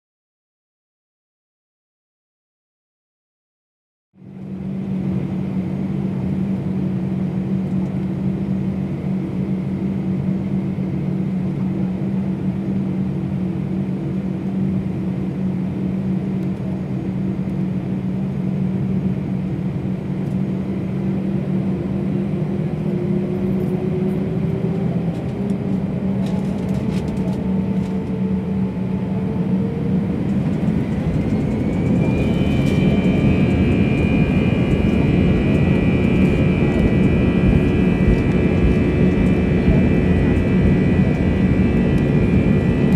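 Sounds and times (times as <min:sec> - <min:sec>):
jet engines humming: 0:04.2 - 0:42.9
jet engines whining: 0:04.3 - 0:42.9.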